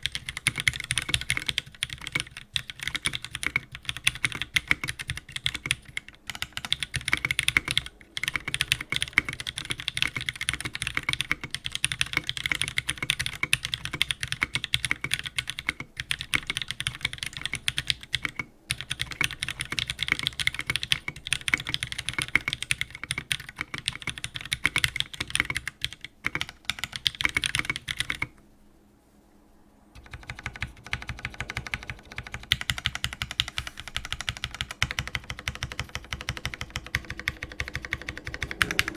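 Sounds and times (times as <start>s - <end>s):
mechanical keyboard typing: 0.0s - 28.4s, 30.0s - 38.9s.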